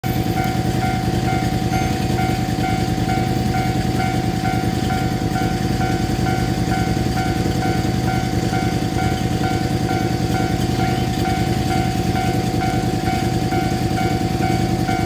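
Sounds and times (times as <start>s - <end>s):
level crossing bell ringing: 0.0s - 15.0s.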